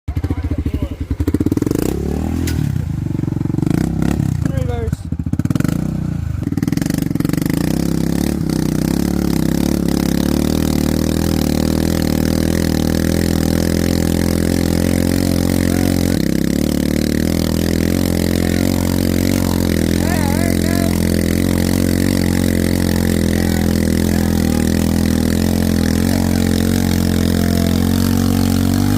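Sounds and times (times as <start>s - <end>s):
off-road vehicle engine under load: 0.0s - 28.9s.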